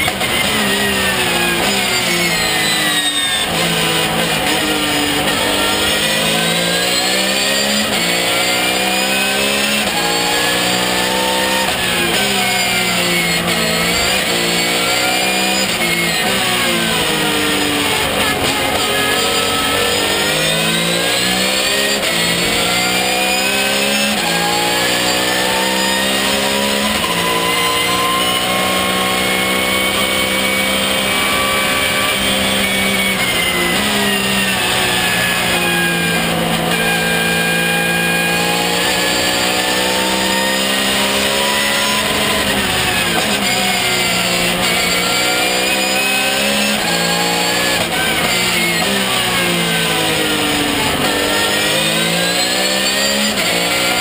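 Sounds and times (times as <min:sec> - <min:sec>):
race car engine revving with gear shifts: 0:00.0 - 0:54.0.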